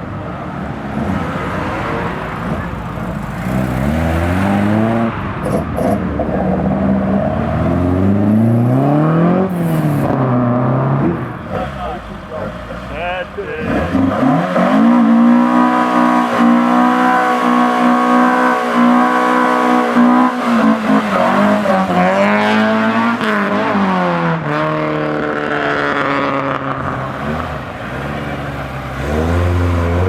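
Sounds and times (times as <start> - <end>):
car engine revving: 0.8 - 30.0.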